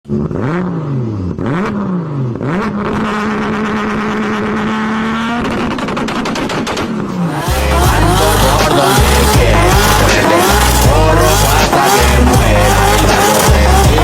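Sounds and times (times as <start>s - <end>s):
vehicle engine accelerating: 0.1s - 14.0s.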